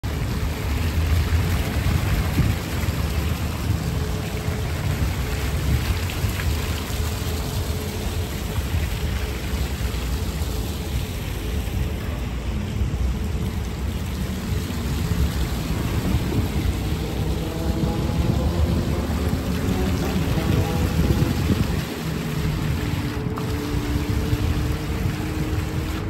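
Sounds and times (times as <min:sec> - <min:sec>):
fountain jets splashing into pool: 0:00.0 - 0:26.0.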